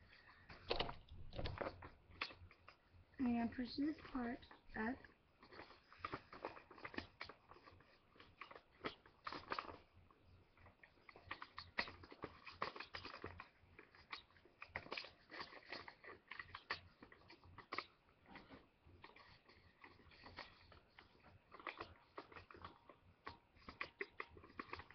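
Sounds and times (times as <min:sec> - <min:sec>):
paper crinkling: 0:03.5 - 0:09.9, 0:10.6 - 0:24.9.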